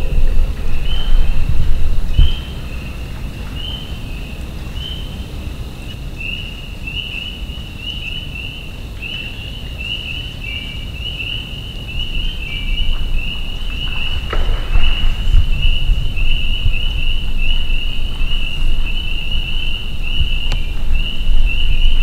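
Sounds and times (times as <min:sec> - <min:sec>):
high chirping calls: 0:00.0 - 0:22.0
steady low rumble: 0:00.0 - 0:22.0.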